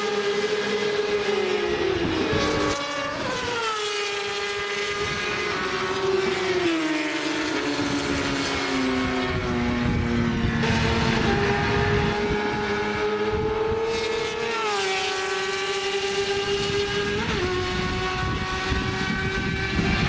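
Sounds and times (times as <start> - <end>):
sport bike engine high revs: 0.0 - 20.0.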